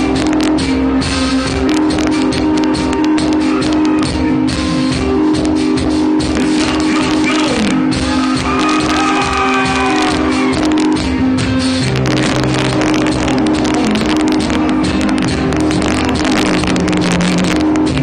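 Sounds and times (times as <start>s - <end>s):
drums: 0.0s - 18.0s.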